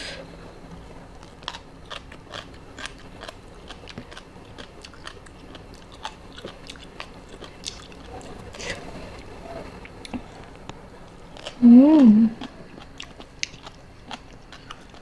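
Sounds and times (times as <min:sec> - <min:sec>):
crunchy chewing: 0:00.7 - 0:15.0.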